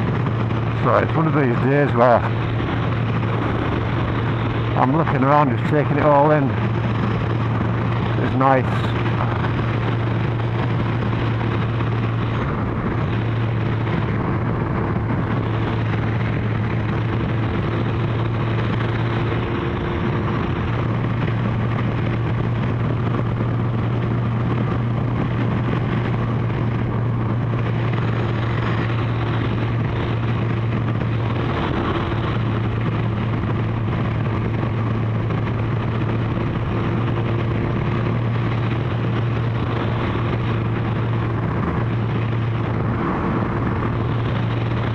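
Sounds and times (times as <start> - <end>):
motorcycle engine cruising: 0.0 - 44.9
wind noise on microphone: 0.0 - 44.9.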